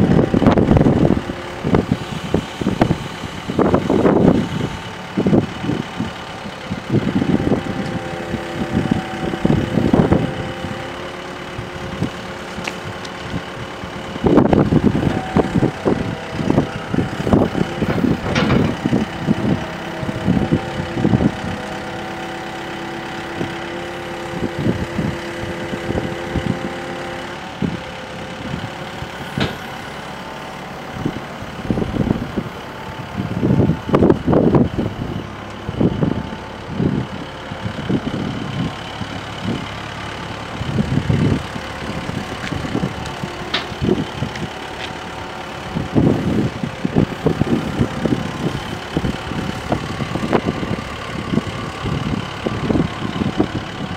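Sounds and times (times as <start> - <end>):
excavator diesel engine running: 0.0 - 53.9
hydraulic whine: 0.0 - 53.9.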